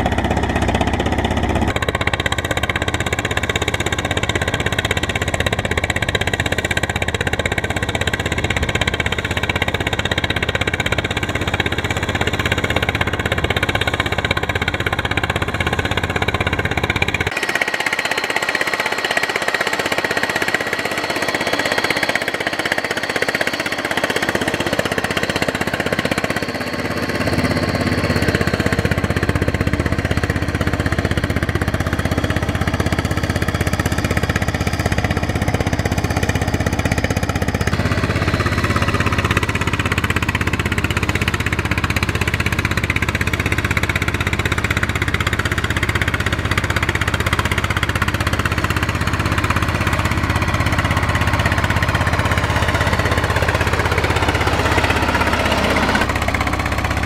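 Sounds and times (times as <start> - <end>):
cultivator engine running: 0.0 - 57.0.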